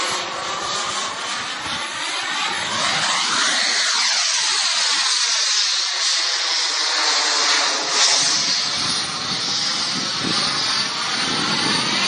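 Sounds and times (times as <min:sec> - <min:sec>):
jet fighter engine roaring: 0:00.0 - 0:12.0.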